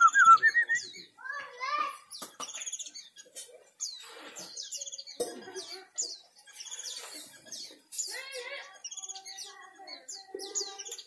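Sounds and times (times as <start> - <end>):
flycatcher singing: 0.0 - 1.3, 1.9 - 11.0.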